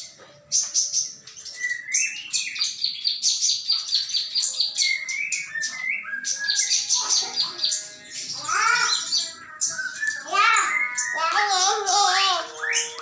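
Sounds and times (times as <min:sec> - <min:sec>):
small birds chirping rapidly: 0:00.0 - 0:13.0.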